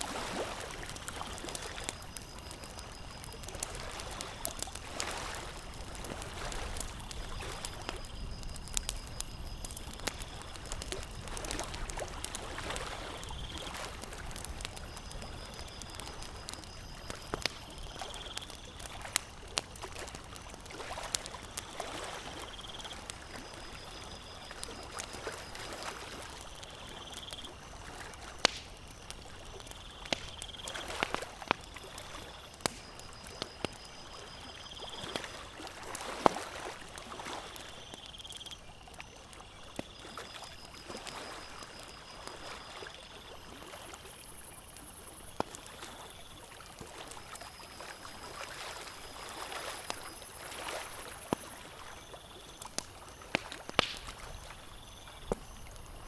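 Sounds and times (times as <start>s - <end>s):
campfire crackling and popping: 0.0s - 56.0s
small lake waves lapping: 0.0s - 56.0s.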